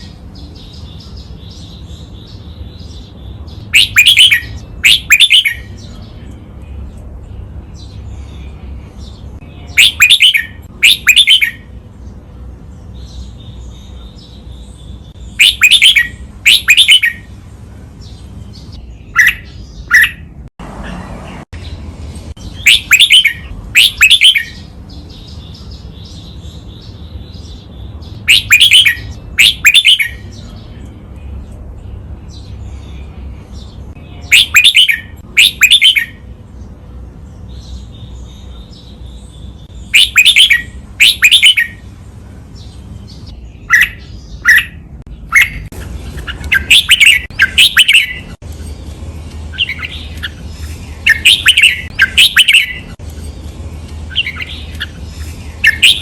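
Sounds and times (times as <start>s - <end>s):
bird singing paired calls: 0.0s - 21.0s, 22.4s - 56.0s
faint bird chirping: 0.0s - 56.0s.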